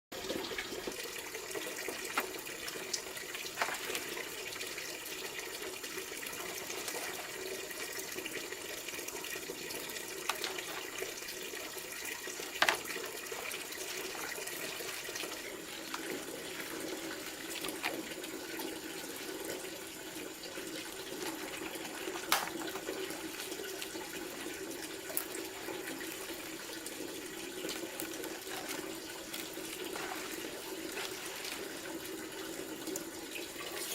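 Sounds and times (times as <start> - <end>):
running water: 0.1 - 33.9.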